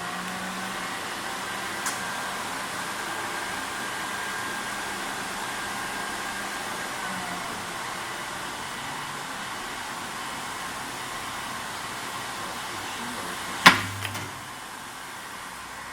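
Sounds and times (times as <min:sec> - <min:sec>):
wrapping machine running: 0:00.0 - 0:15.9.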